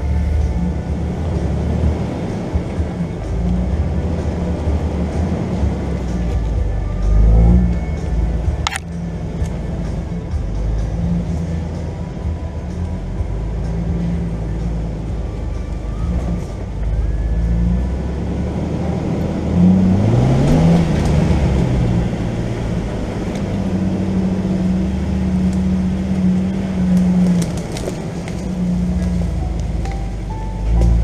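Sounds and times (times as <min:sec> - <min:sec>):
car engine revving off-road: 0:00.0 - 0:31.0.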